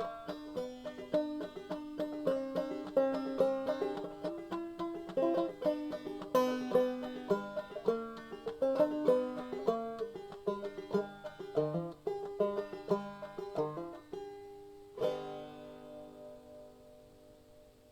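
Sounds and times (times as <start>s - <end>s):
banjo plucking: 0.0s - 17.9s.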